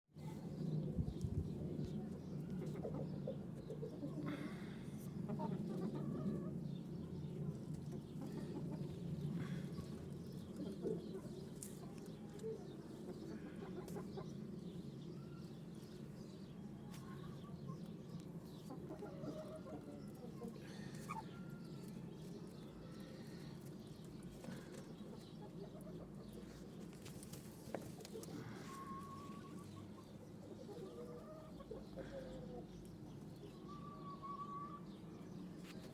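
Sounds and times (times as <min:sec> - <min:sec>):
chickens clucking: 0:01.0 - 0:35.9.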